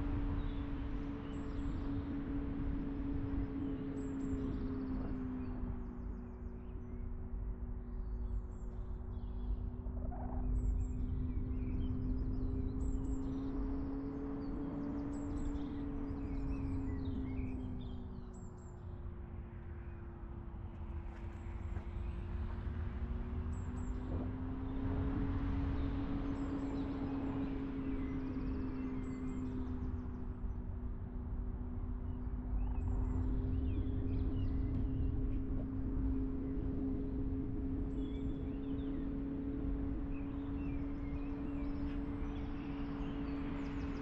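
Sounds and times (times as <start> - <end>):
car engine and drivetrain hum: 0.0 - 44.0
low road rumble: 0.0 - 44.0.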